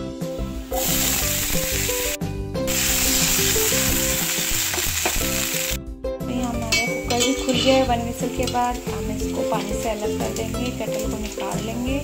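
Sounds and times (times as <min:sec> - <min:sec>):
potatoes sizzling in oil: 0:00.3 - 0:05.8, 0:06.4 - 0:12.0.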